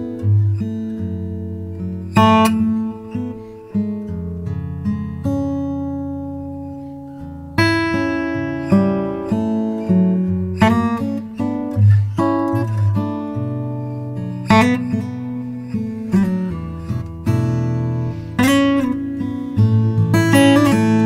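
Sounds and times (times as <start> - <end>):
acoustic guitar music: 0.0 - 21.0.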